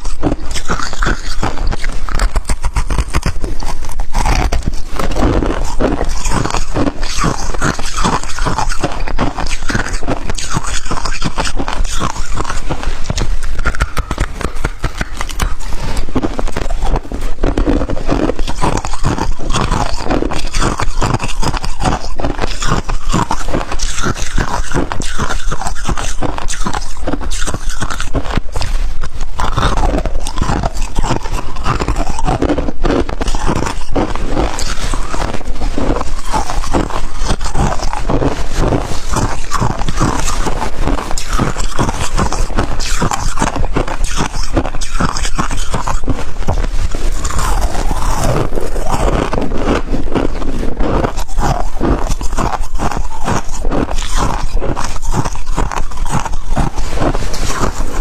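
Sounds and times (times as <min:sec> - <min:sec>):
chewing ice crunches: 0:00.0 - 0:58.0.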